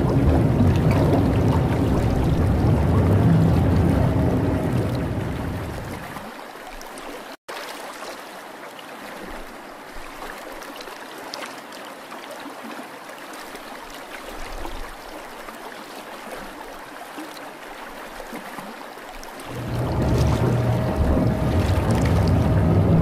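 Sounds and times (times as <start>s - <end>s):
water trickling and gurgling: 0.0s - 23.0s.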